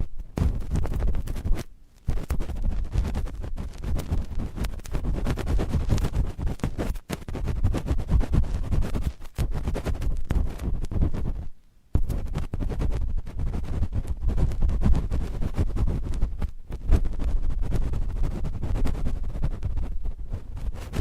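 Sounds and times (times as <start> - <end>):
cotton swabs rubbing microphone: 0.0 - 21.0.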